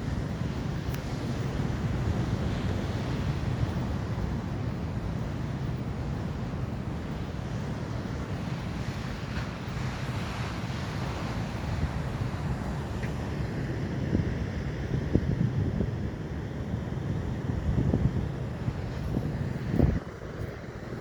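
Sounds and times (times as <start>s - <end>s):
ocean waves washing onto shore: 0.0s - 21.0s
wind buffeting microphone: 0.0s - 21.0s.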